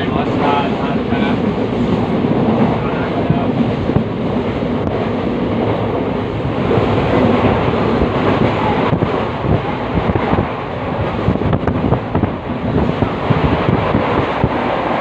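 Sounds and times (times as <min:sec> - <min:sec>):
passenger train rumbling and rattling: 0:00.0 - 0:15.0.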